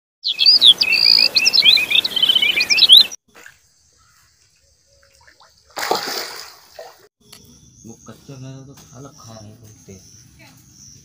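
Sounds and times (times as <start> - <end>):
birds chirping: 0.2 - 5.8, 7.2 - 11.0.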